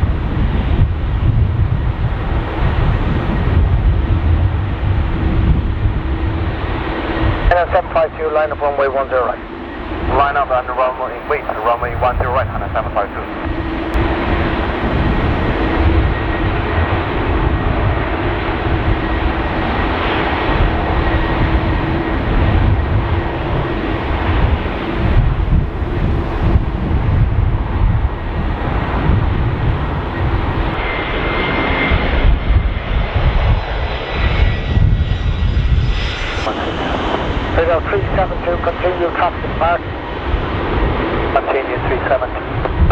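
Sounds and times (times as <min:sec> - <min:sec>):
jet engines at high power: 0:00.0 - 0:42.9
low wind rumble: 0:00.0 - 0:42.9.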